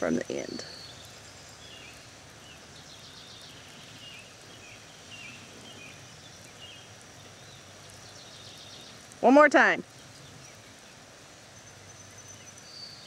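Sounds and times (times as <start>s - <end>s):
birds chirping: 0.0s - 13.0s
steady hiss: 0.0s - 13.0s.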